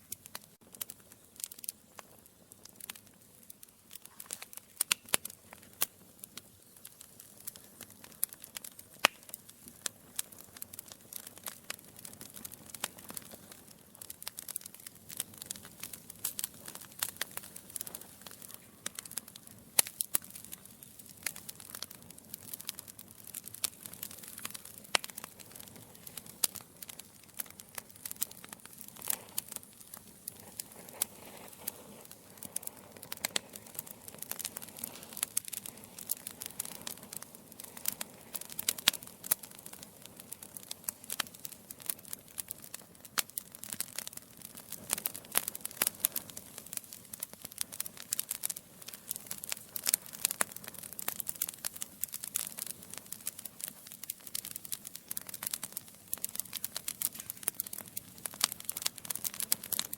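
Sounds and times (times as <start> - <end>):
soft hiss of fire: 0.0 - 59.9
wood fire crackling and popping: 0.0 - 59.9.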